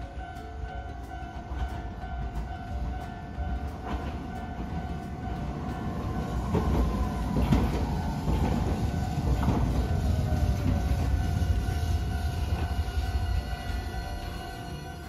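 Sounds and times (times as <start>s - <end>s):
tram braking whine: 0.0s - 15.0s
tram clank: 0.0s - 15.0s
tram wheels rumbling on rails: 0.0s - 15.0s.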